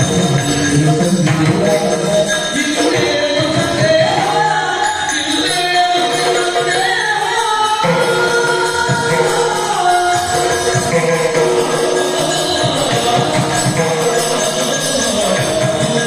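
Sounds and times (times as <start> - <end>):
drums: 0.0 - 16.0
jingling hand cymbals: 0.0 - 16.0.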